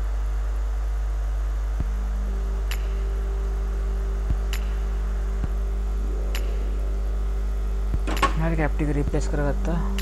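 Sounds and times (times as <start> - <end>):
electrical mains hum: 0.0 - 10.0
faint steady tones: 0.9 - 10.0.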